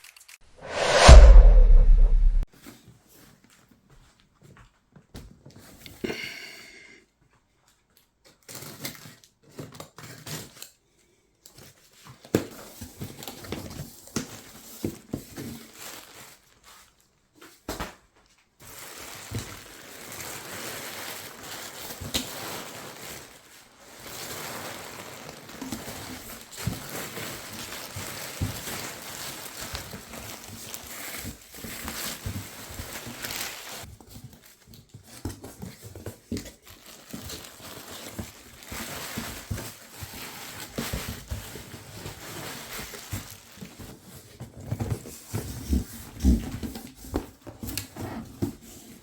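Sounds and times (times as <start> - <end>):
packaging crinkling and rustling: 8.2 - 10.7, 11.6 - 49.0.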